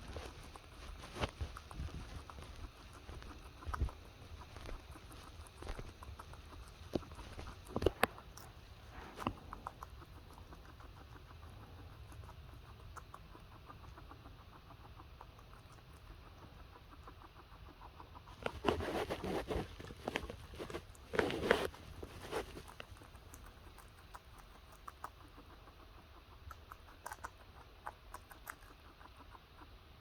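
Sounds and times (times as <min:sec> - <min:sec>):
lettuce crunching chewing: 0:00.0 - 0:29.7.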